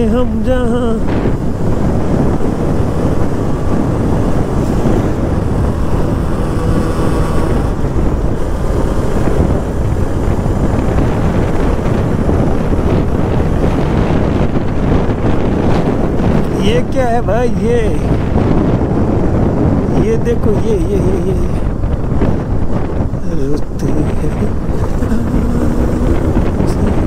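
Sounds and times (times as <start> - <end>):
motorcycle running noise: 0.0 - 27.0
wind buffeting microphone: 0.0 - 27.0.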